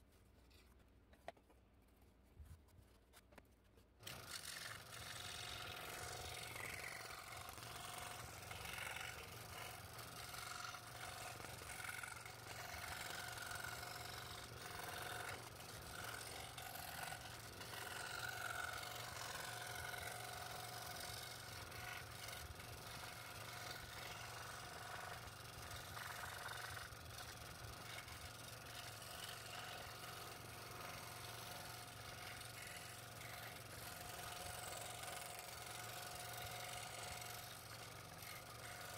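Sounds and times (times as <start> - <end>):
saw blade cutting wood: 4.0 - 38.9
scroll saw motor hum: 4.0 - 38.9.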